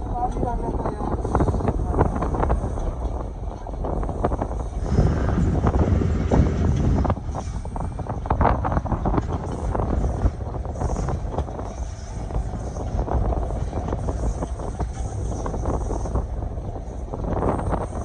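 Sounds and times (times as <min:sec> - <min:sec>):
train rumbling: 0:00.0 - 0:18.0
wheels clattering on rails: 0:00.0 - 0:18.0
wind buffeting microphone: 0:00.0 - 0:18.0.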